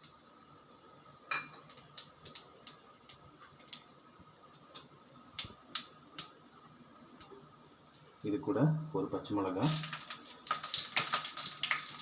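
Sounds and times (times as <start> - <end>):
seeds popping in hot oil: 0.0 - 9.0, 9.6 - 12.0.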